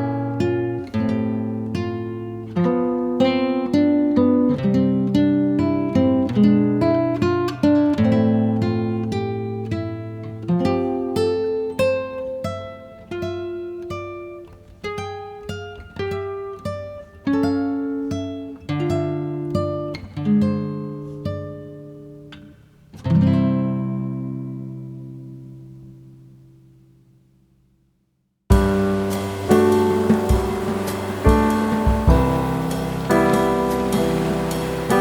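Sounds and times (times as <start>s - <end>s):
acoustic guitar picking: 0.0s - 27.1s, 28.5s - 35.0s.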